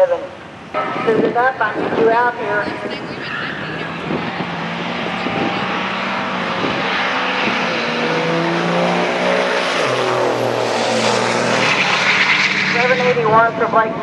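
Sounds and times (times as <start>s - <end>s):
diesel trucks accelerating: 0.0s - 14.0s.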